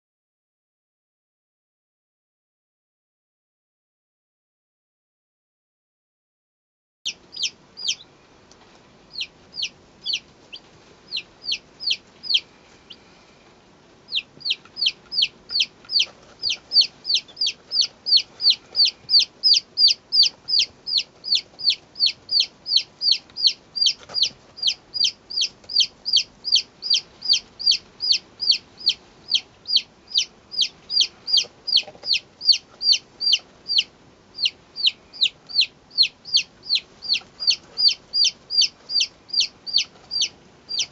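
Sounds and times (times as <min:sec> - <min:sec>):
chicks peeping: 0:07.1 - 0:40.9.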